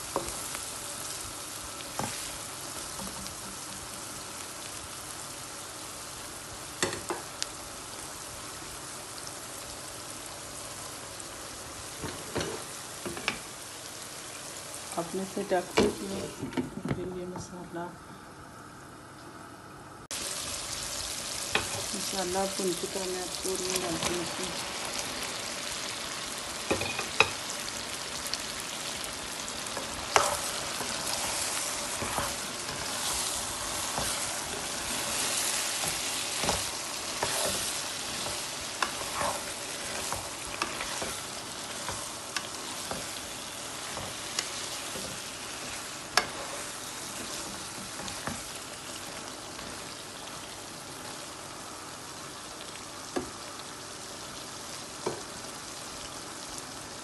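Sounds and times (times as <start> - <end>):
vegetables sizzling in oil: 0.0 - 16.5, 20.1 - 57.0.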